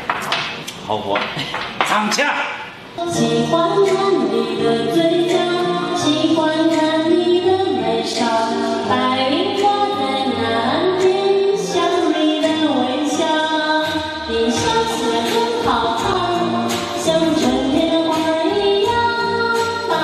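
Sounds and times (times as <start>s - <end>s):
pop backing track with beat: 2.7s - 20.0s
woman singing into microphone: 2.9s - 20.0s.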